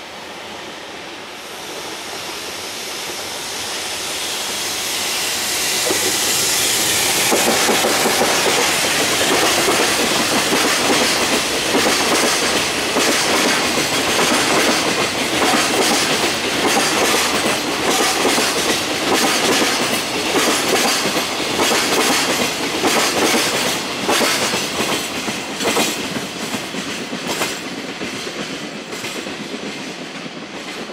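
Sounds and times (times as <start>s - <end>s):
train wheels clattering over rail joints: 5.7s - 30.9s.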